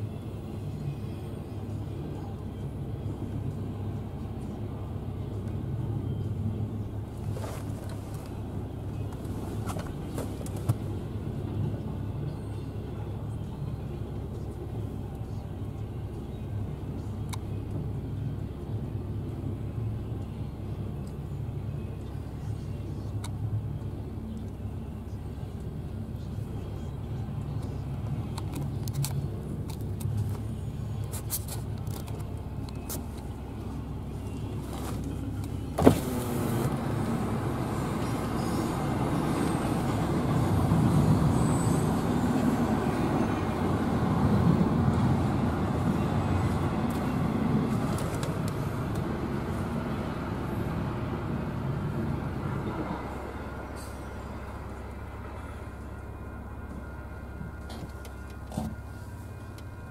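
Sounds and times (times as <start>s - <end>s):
muffled freight train rumble: 0.0s - 35.9s, 36.7s - 59.9s.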